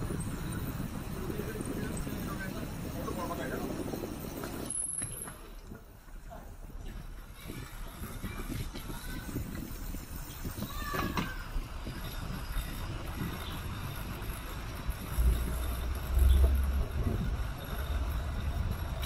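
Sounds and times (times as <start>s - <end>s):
bicycle tyres rumbling: 0.0s - 19.0s
wind buffeting microphone: 0.0s - 19.0s.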